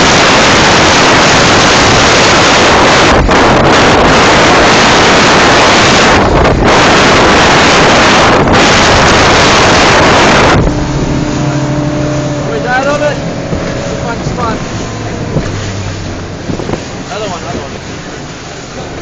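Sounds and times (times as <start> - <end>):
boat engine drone: 0.0 - 19.0
wind over phone microphone: 0.0 - 19.0.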